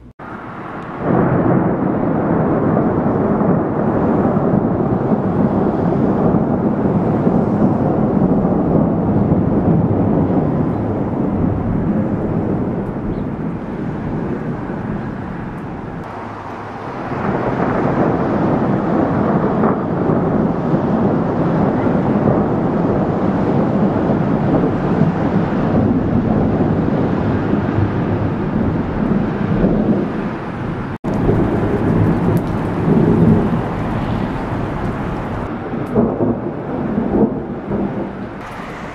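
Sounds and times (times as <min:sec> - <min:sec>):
heavy rain: 0:00.0 - 0:38.9
deep rumble of thunder: 0:00.2 - 0:38.9.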